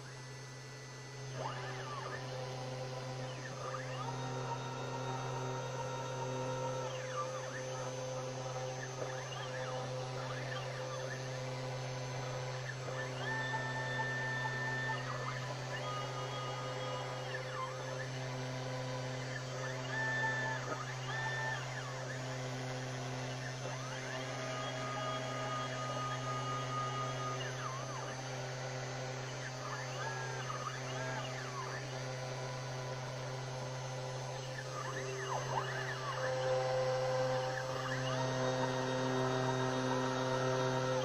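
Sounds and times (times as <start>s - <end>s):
router low hum: 0.0s - 41.0s
stepper motors whining: 0.0s - 41.0s.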